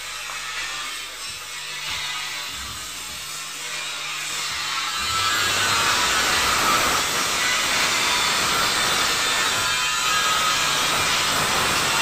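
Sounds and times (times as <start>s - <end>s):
car bumper being sanded: 0.0s - 12.0s.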